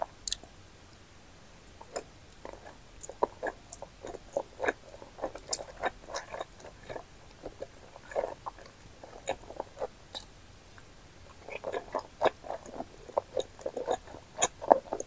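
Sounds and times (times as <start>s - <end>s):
mouth chewing noodles: 1.8s - 10.4s, 11.3s - 15.0s.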